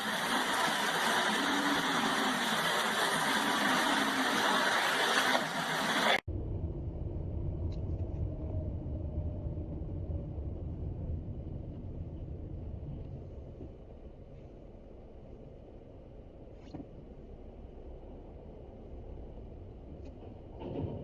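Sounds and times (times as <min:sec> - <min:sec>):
low steady engine rumble: 0:00.0 - 0:21.0
vehicle engine and road noise: 0:00.0 - 0:21.0.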